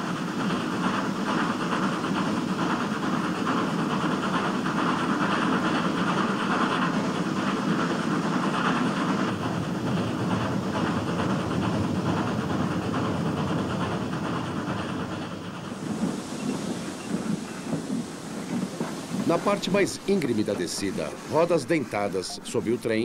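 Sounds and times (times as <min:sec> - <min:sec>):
train wheels clattering: 0:00.0 - 0:23.0.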